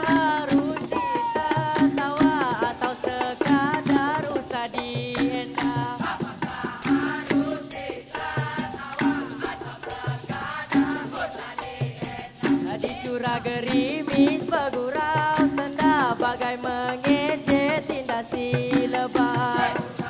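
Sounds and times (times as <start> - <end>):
chorus singing together: 0.0 - 20.0
frame drums: 0.0 - 20.0.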